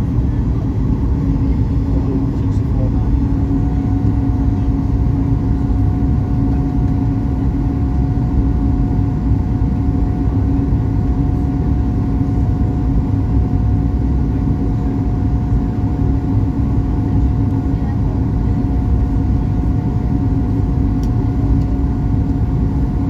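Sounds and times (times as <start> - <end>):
airliner cabin engine roar: 0.0 - 23.0
constant low hum: 0.0 - 23.0.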